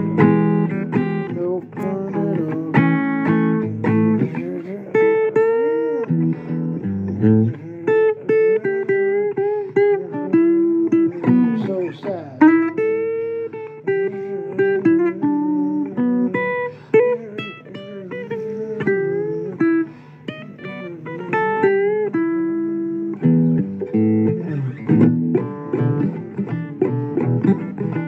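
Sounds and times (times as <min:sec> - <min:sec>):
blues guitar playing: 0:00.0 - 0:28.0.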